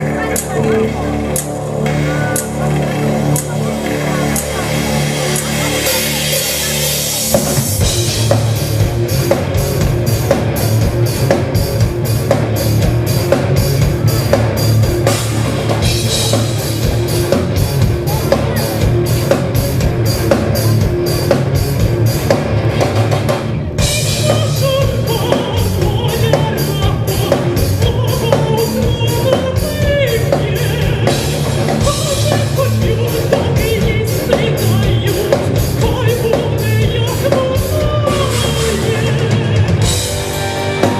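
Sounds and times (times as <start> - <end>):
drum kit steady beat: 0.0 - 40.9
rock band playing live: 0.0 - 40.9.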